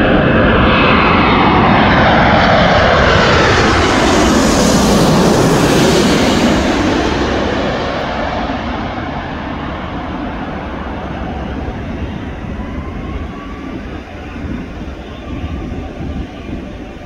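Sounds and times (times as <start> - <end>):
jet engine hiss: 0.0 - 17.0
jet engine rumble: 0.0 - 17.0.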